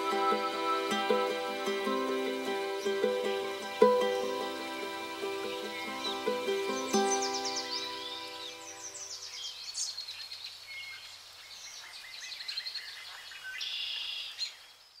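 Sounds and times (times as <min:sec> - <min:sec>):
birds chirping and singing: 0:00.0 - 0:14.9.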